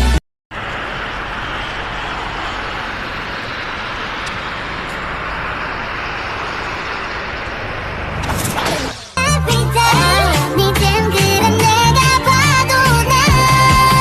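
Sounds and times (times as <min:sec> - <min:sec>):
rushing vehicle noise: 0:00.0 - 0:14.0.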